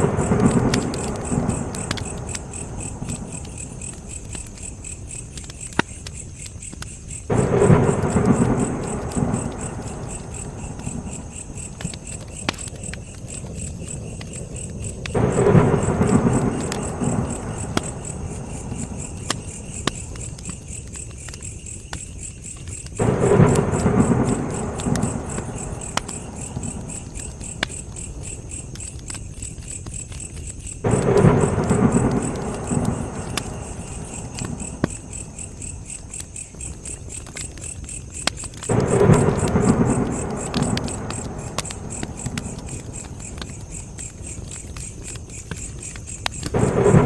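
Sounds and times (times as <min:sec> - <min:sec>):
campfire crackling and popping: 0:00.0 - 0:47.0
crickets chirping: 0:00.0 - 0:47.0.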